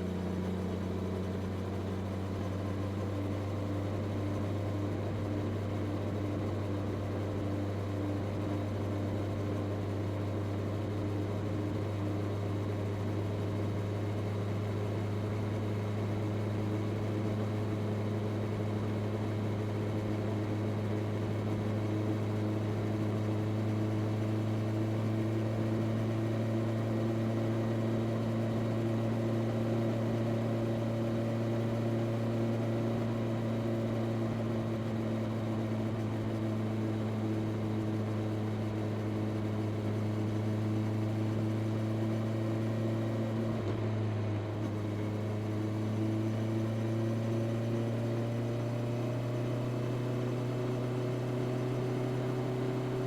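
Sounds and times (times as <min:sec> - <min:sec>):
motorcycle engine while riding: 0:00.0 - 0:53.0.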